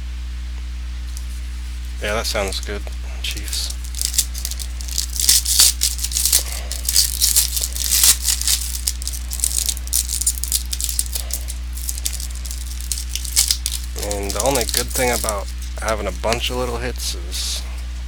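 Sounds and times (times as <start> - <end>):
low electrical hum: 0.0 - 18.0
cards clicking and rustling: 1.1 - 18.0.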